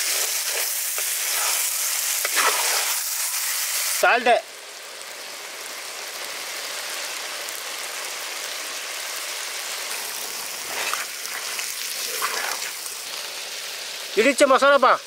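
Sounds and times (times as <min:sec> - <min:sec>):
meat frying in hot oil: 0:00.0 - 0:15.0.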